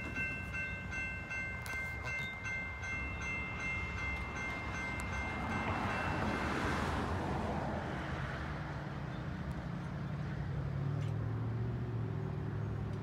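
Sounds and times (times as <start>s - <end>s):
distant locomotive engine hum: 0.0s - 13.0s.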